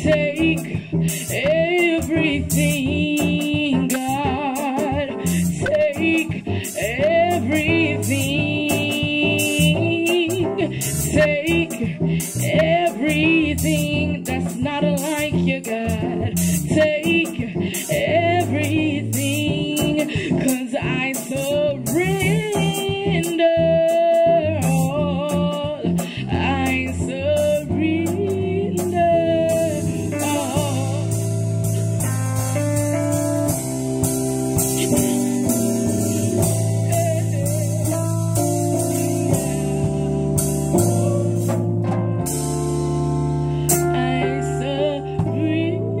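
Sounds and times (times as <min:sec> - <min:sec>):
person singing: 0:00.0 - 0:31.8, 0:34.6 - 0:41.6, 0:43.6 - 0:46.0
live band playing: 0:00.0 - 0:46.0.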